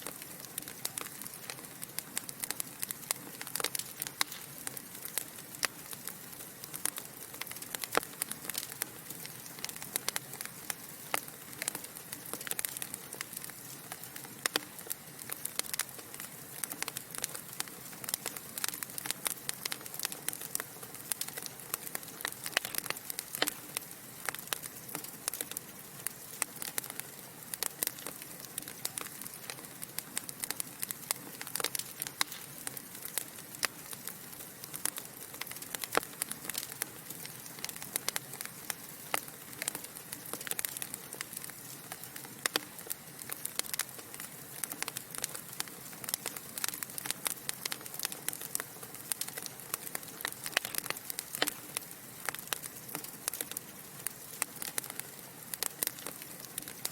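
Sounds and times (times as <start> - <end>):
logs crackling and popping: 0.0 - 56.9.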